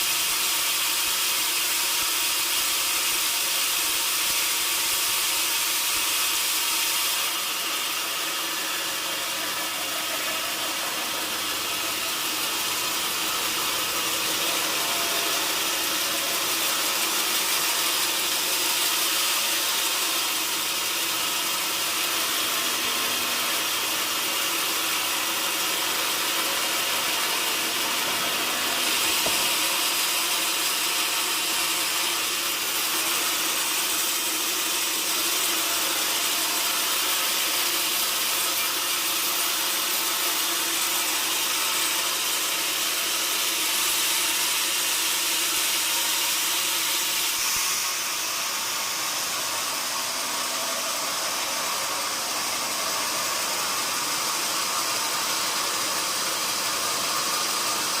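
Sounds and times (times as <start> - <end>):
saw cutting through wood: 0.0 - 58.0.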